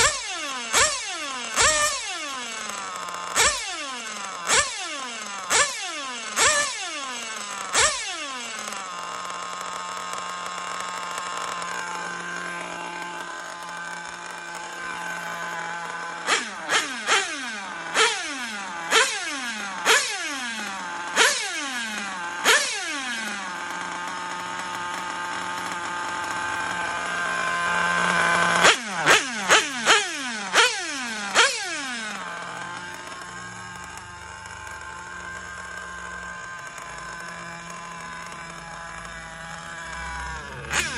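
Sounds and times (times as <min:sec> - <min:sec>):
model car nitro engine revving: 0:00.0 - 0:40.9.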